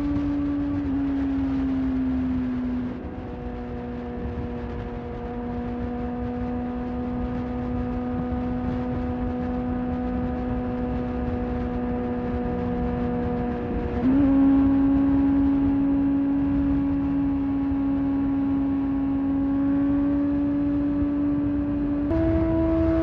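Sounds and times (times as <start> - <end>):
motorcycle engine cruising: 0.0 - 23.0
wind rush: 0.0 - 23.0.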